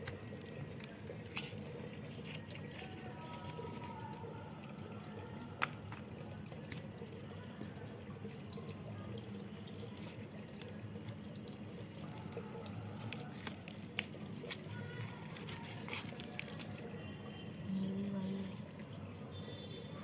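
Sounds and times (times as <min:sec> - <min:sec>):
running water trickling: 0:00.0 - 0:20.0.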